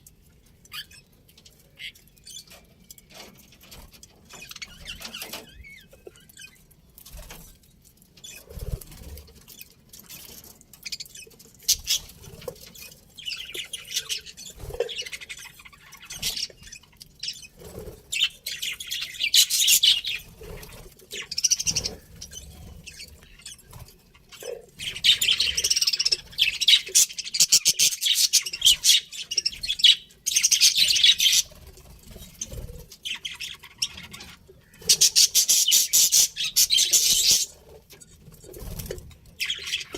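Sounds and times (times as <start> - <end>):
budgerigars chirping and warbling: 0.4 - 39.9.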